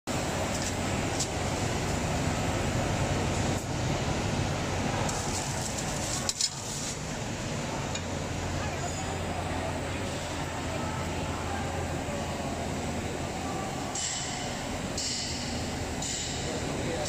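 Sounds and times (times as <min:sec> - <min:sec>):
factory machinery humming: 0:00.1 - 0:17.0.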